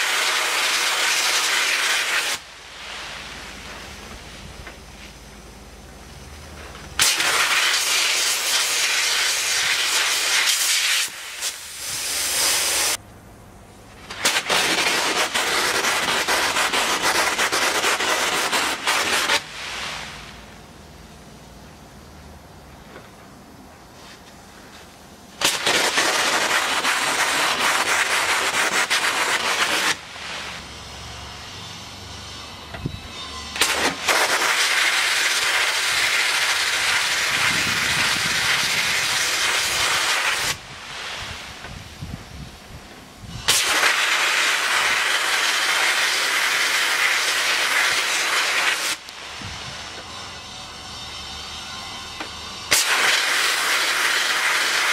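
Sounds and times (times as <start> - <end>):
sandblasting gun hissing: 0.0 - 5.5, 6.1 - 13.0, 14.0 - 20.6, 25.4 - 54.9.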